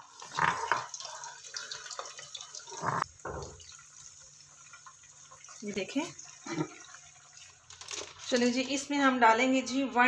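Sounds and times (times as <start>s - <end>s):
chicken deep-frying in oil: 0.0s - 9.0s.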